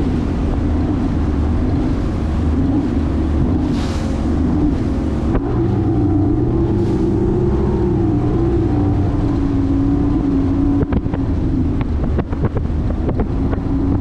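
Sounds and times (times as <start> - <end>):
outboard motor running: 0.0 - 14.0
wind on microphone: 0.0 - 14.0.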